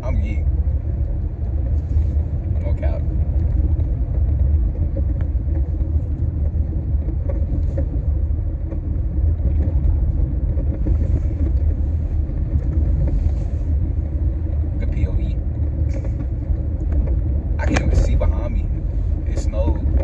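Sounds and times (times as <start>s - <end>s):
car driving on snowy road: 0.0s - 20.0s.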